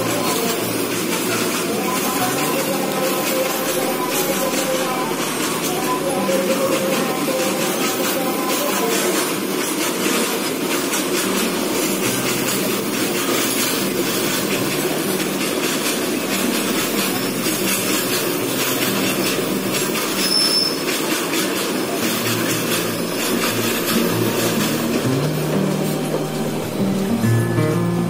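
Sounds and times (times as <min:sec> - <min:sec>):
clickety-clack over rail joints: 0:00.0 - 0:26.8
high wheel squeal: 0:00.0 - 0:28.0
train wheels rumbling on rails: 0:00.0 - 0:28.0.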